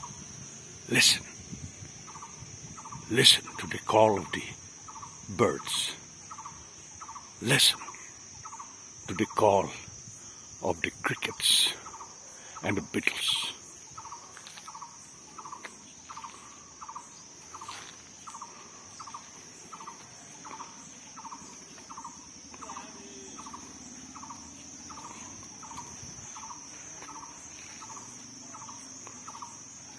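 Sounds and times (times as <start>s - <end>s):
crickets trilling: 0.0s - 29.9s.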